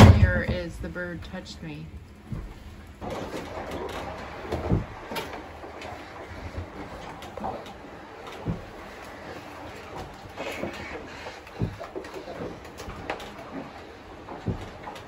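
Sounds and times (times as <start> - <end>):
pole knocking and scraping: 2.3 - 15.0.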